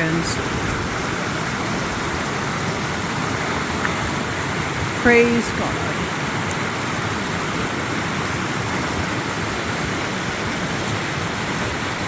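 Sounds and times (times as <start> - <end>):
rushing creek: 0.0 - 12.0.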